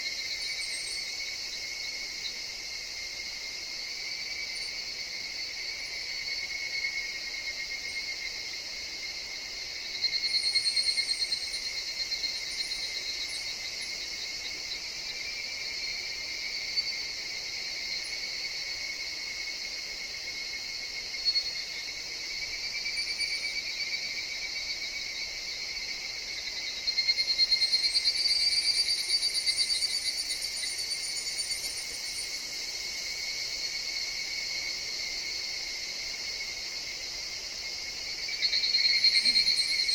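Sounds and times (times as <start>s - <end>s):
cicadas pulsing trill: 0.0s - 39.9s.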